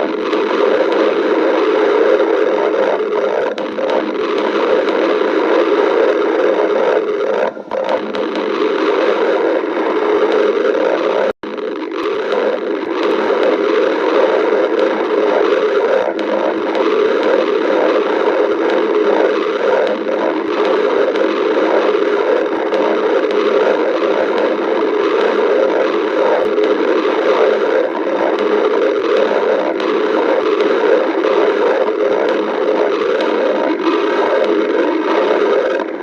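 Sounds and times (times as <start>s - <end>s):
stomach growling: 0.0s - 36.0s.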